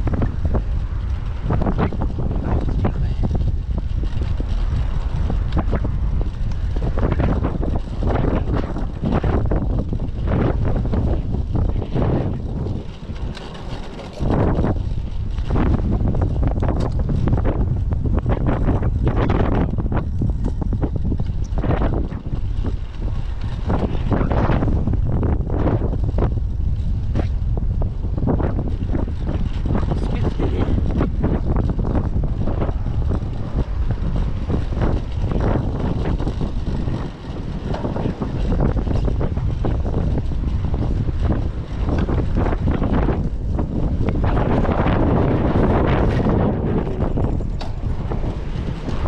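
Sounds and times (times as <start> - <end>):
strong wind buffeting microphone: 0.0 - 49.0.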